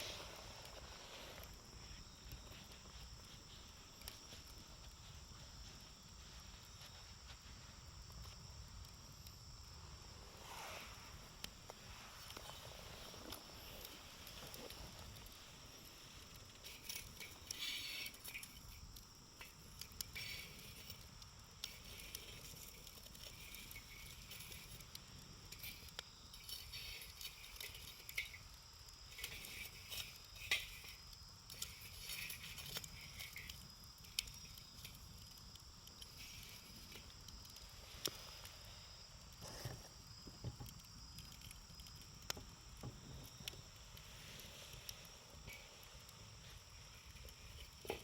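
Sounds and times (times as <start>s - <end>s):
campfire crackling and popping: 0.0s - 48.0s.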